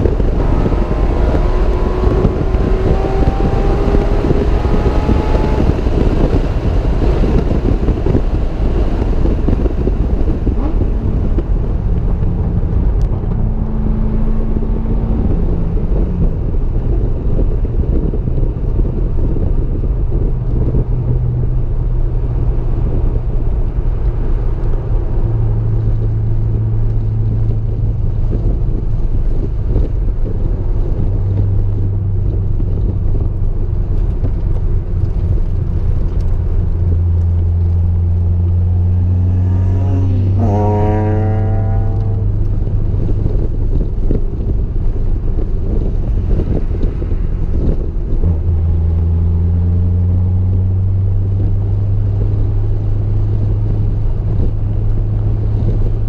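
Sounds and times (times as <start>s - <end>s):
car engine running: 0.0s - 56.0s
road and wind noise: 0.0s - 56.0s.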